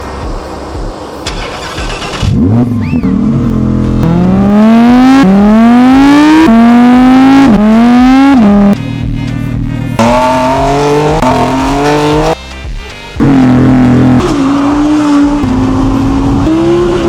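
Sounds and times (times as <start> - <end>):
sports car engine accelerating: 0.3 - 12.6, 13.2 - 17.0.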